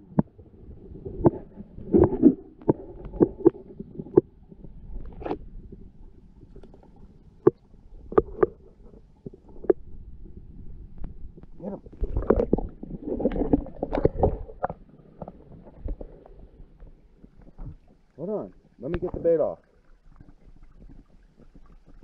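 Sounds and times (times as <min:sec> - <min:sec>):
underwater knocks and bumps: 0:00.0 - 0:19.4
muffled underwater sloshing: 0:00.0 - 0:22.0.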